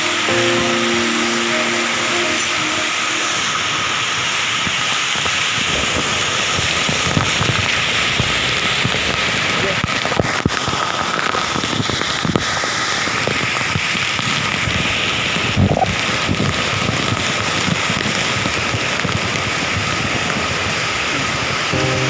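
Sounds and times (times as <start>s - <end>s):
waterfall splashing: 0.0s - 22.0s.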